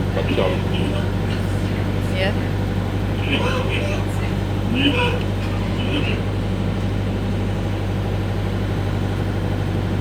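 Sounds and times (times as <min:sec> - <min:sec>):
bus engine humming: 0:00.0 - 0:10.0.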